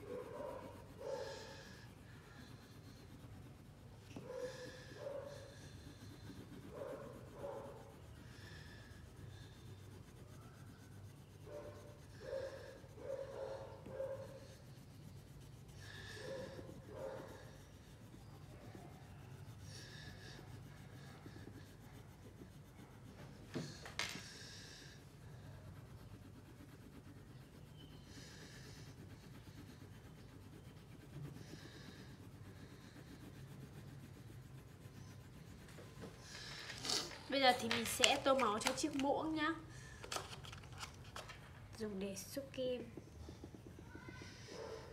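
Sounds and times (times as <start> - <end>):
crayon scraping on paper: 0.0 - 44.9.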